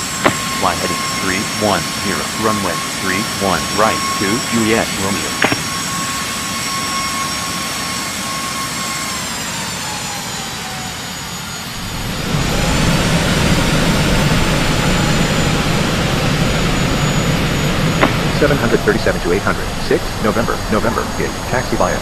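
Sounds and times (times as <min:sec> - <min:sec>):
deep jet engine rumble: 0:00.0 - 0:07.8, 0:11.7 - 0:22.0
jet engine whine: 0:00.0 - 0:22.0.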